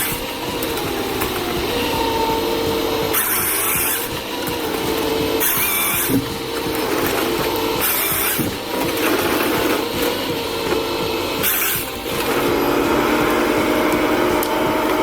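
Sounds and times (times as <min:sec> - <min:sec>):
hissing bursts: 0:00.0 - 0:15.0
machine hum: 0:00.0 - 0:15.0.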